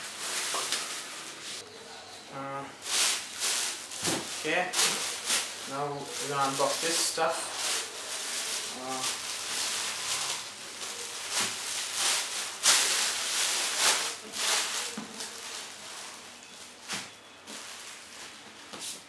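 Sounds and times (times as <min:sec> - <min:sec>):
plastic bag crinkling: 0:00.0 - 0:01.6, 0:02.8 - 0:19.0.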